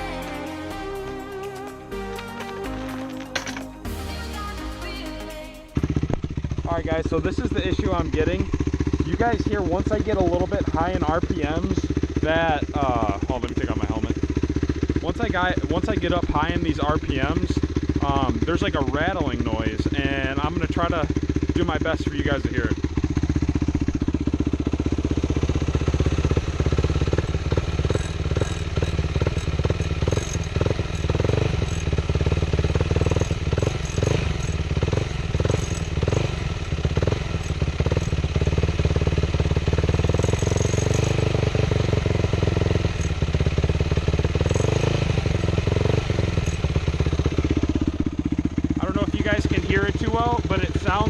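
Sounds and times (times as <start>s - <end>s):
motorcycle engine revving: 0.0s - 51.0s
engine clattering rattle: 5.8s - 51.0s.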